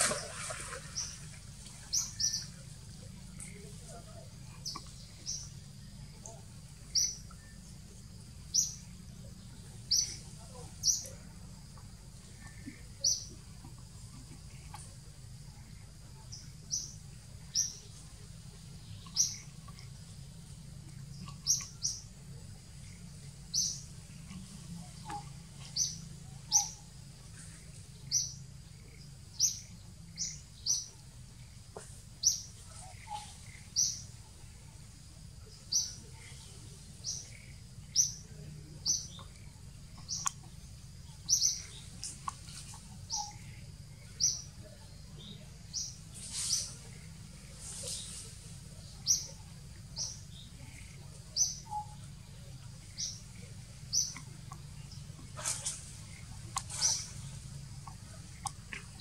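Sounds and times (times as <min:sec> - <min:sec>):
low background hum: 0:00.0 - 0:59.0
bird chirping: 0:00.9 - 0:18.2, 0:18.8 - 0:20.0, 0:20.8 - 0:34.5, 0:35.4 - 0:59.0.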